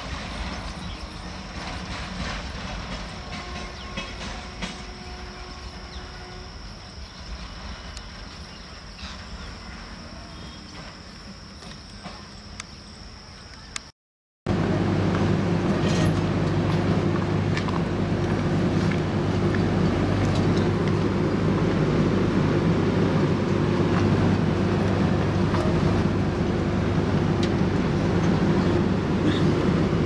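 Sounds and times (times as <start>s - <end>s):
freight train wagons rolling: 0.0s - 12.5s, 14.5s - 30.0s
high whine: 3.3s - 13.9s, 14.5s - 30.0s.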